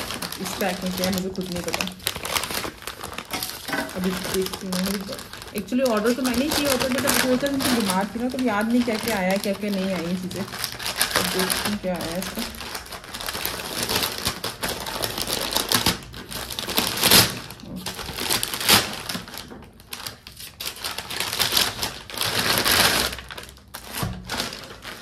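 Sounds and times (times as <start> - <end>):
paper crinkling and ripping: 0.0 - 25.0.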